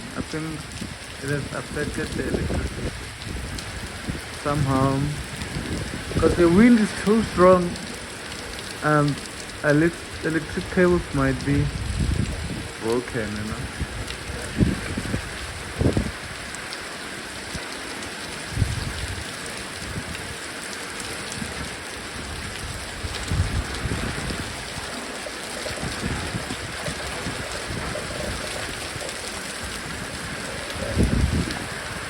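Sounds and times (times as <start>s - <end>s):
wind gusting into microphone: 0.0s - 17.7s, 18.3s - 32.0s
heavy rain falling: 0.0s - 32.0s.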